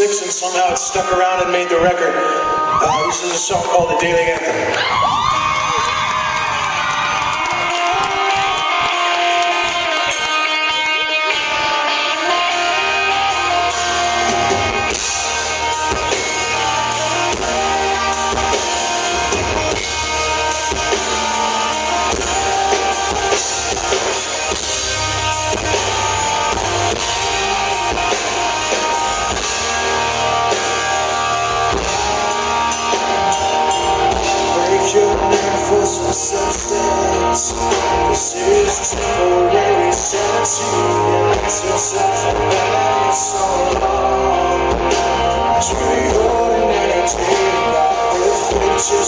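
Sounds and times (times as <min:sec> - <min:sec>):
drums: 0:00.0 - 0:49.0
electric guitar: 0:00.0 - 0:49.0
bass guitar: 0:02.6 - 0:49.0.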